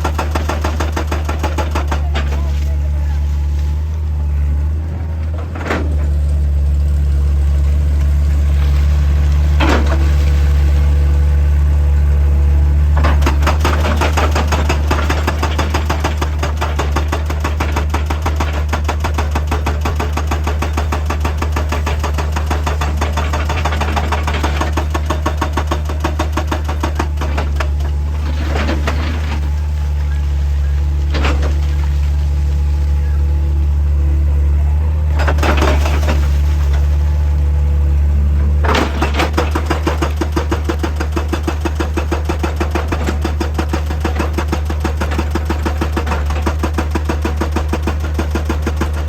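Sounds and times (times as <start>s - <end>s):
excavator engine humming: 0.0s - 49.0s.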